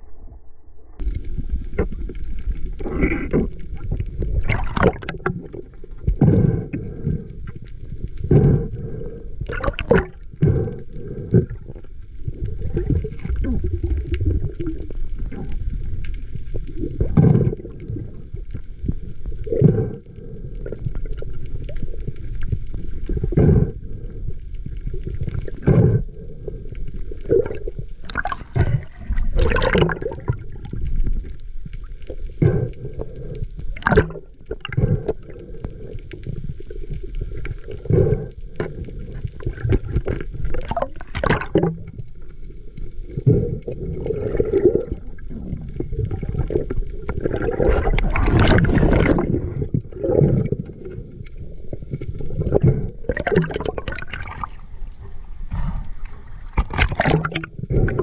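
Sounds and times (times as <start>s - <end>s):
underwater water rush and gurgling: 0.0s - 58.0s.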